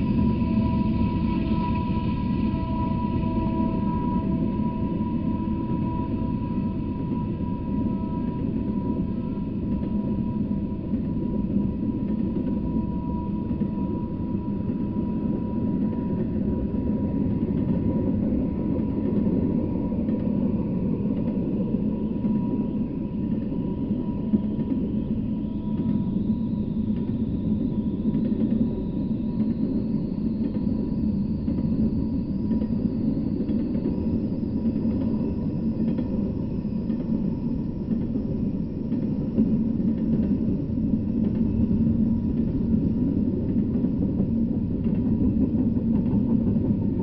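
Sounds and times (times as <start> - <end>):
faint high whine: 0.0 - 47.0
freight train wheels rumbling: 0.0 - 47.0.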